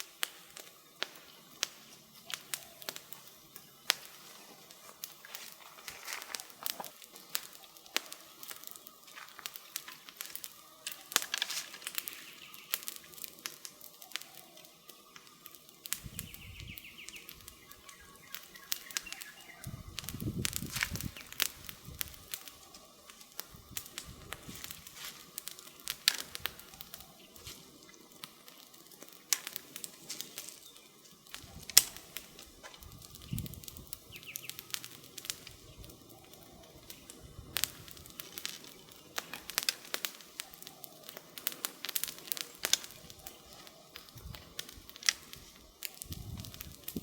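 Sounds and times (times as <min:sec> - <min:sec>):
wood campfire crackling: 0:00.0 - 0:47.0.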